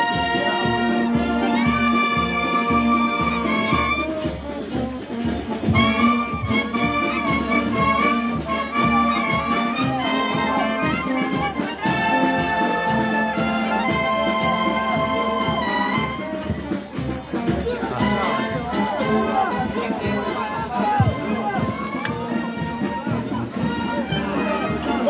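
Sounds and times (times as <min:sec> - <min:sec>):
brass band playing: 0:00.0 - 0:25.0
percussion beat: 0:00.0 - 0:25.0.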